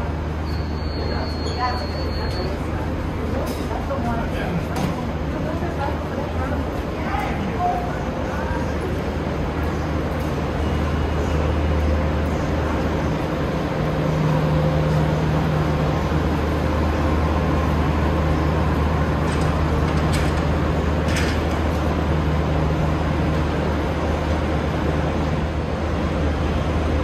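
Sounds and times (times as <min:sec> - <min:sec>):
cable car mechanical hum and rumble: 0:00.0 - 0:27.0.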